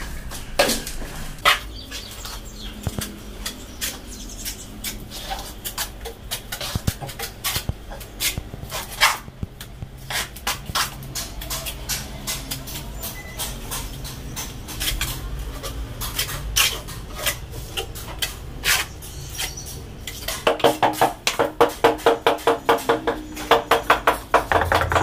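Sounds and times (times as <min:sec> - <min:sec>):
trowel scraping and slapping mortar: 0:00.5 - 0:25.0.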